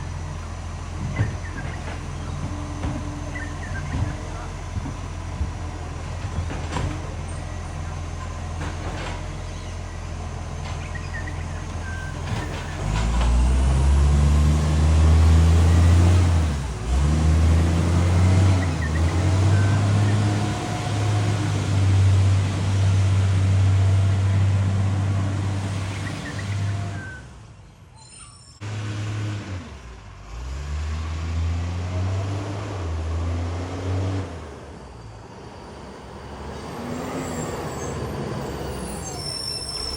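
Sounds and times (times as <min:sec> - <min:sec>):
diesel truck engine with exhaust leak: 0:00.0 - 0:39.9.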